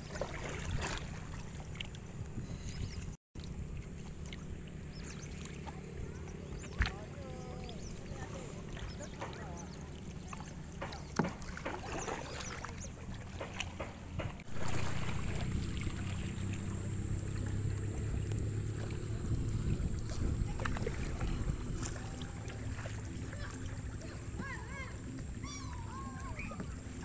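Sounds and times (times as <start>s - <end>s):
paddle splashes: 0.0s - 27.0s
rushing water: 0.0s - 27.0s
water slapping hull: 0.0s - 27.0s
wind: 0.0s - 27.0s.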